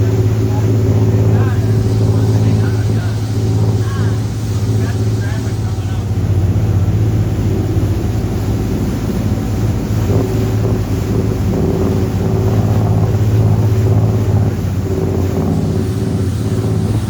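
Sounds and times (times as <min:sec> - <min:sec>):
boat diesel engines droning: 0:00.0 - 0:17.0
water rushing past hull: 0:00.0 - 0:17.0
wind buffeting microphone: 0:00.0 - 0:17.0.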